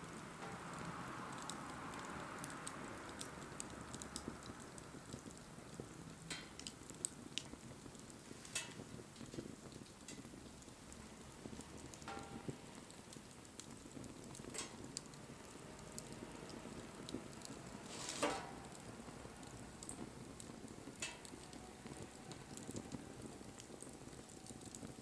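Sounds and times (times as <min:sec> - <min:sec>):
wood fire crackling and popping: 0:00.0 - 0:25.0
soft hiss: 0:04.2 - 0:25.0.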